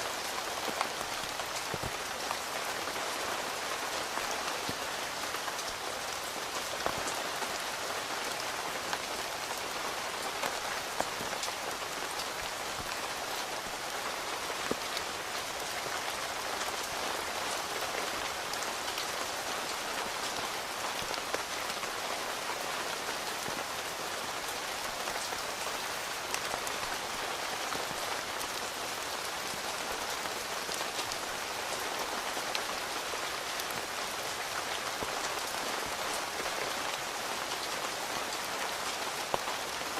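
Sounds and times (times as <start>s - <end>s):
rain on a tent: 0.0s - 39.9s.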